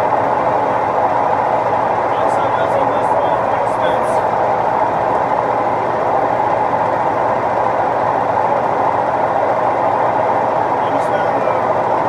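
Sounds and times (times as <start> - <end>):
laundromat machines humming: 0.0 - 12.0.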